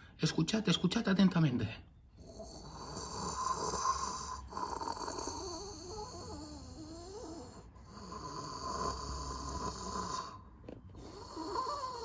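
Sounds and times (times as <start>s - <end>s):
person snoring: 2.2s - 12.0s.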